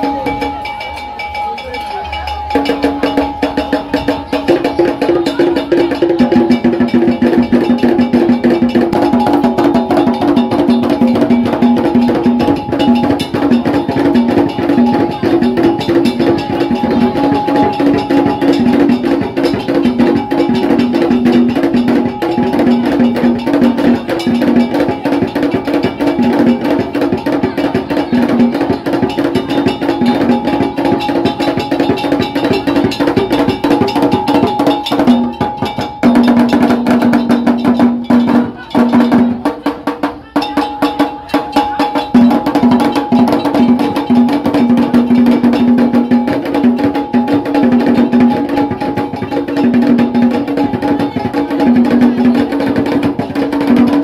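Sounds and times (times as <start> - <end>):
fast drumming and percussion: 0.0 - 54.0.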